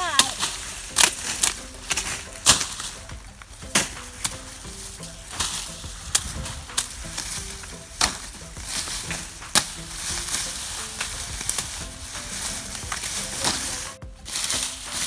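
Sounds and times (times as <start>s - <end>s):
dry leaves rustling: 0.0s - 15.0s
knife chopping sugarcane: 0.0s - 15.0s.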